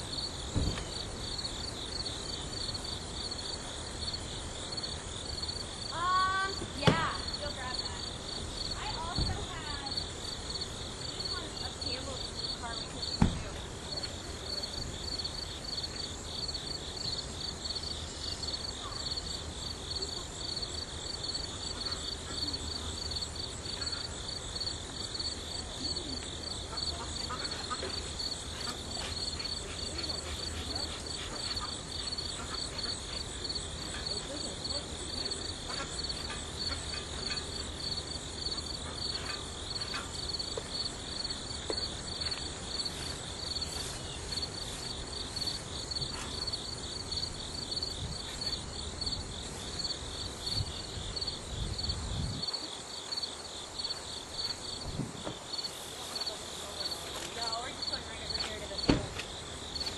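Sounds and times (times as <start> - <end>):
insects singing: 0.0 - 59.9.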